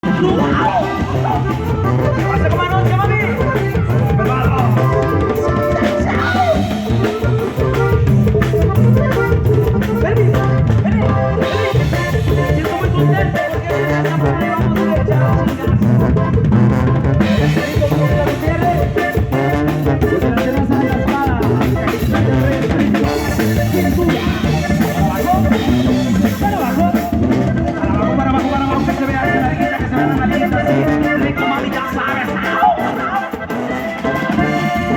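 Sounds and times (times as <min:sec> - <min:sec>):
drum kit beat: 0:00.0 - 0:34.9
live band playing cumbia: 0:00.0 - 0:34.9.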